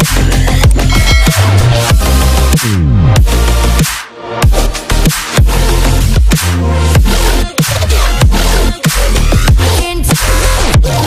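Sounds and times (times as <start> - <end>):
dubstep music with heavy bass: 0.0 - 11.0.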